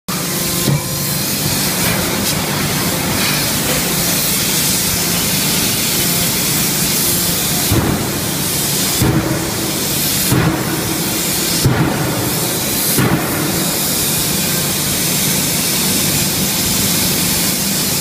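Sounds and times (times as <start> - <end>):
loud hissing forge noise: 0.1 - 18.0.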